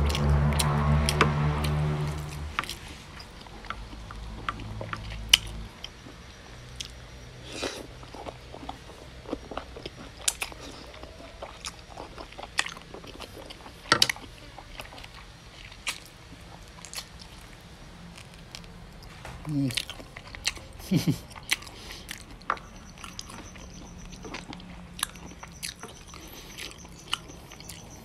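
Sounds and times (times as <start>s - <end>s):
person chewing meat: 0.0s - 28.0s.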